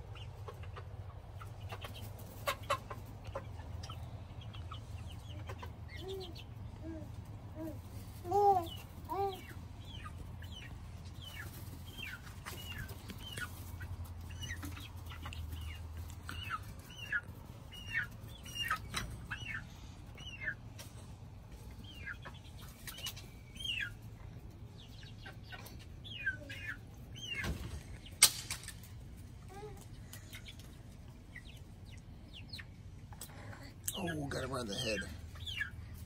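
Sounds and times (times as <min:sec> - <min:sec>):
chicks peeping: 0:00.0 - 0:36.0.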